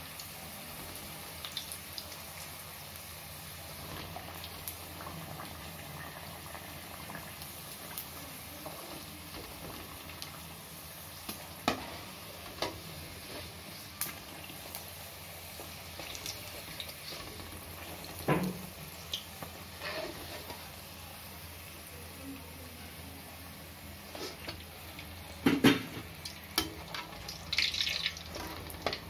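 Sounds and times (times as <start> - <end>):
oil sizzling: 0.0 - 29.0.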